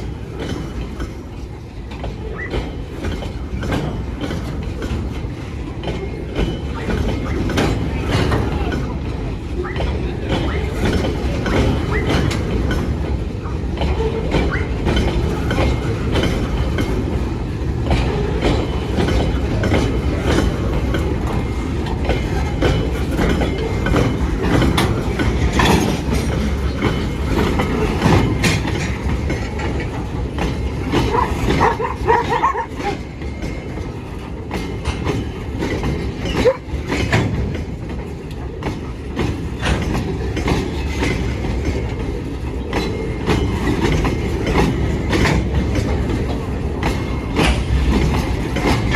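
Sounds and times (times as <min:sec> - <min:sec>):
freight train rumbling past: 0:00.0 - 0:48.9
wheels clacking over rail joints: 0:00.0 - 0:48.9.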